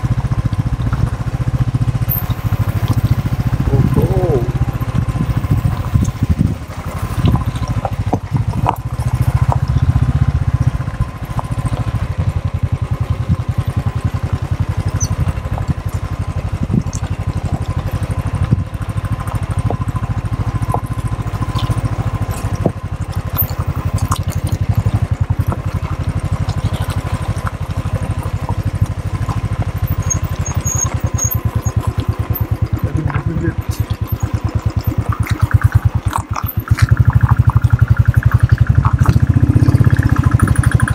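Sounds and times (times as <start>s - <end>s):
motorcycle engine thumping: 0.0s - 40.9s.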